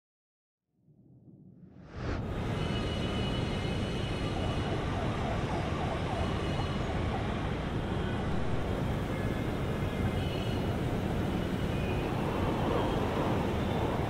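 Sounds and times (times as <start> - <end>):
city traffic rumble: 1.8 - 14.0
faint wailing siren: 2.6 - 14.0.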